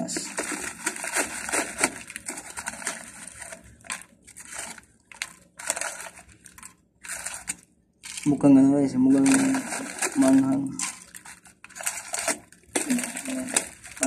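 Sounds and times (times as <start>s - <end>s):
plastic snack bag crinkling: 0.0s - 14.0s.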